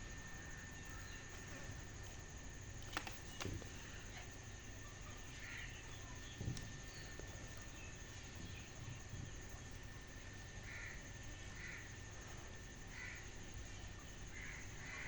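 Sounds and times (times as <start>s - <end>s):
faint steady high hum: 0.0s - 15.0s
distant bird calls: 0.2s - 15.0s.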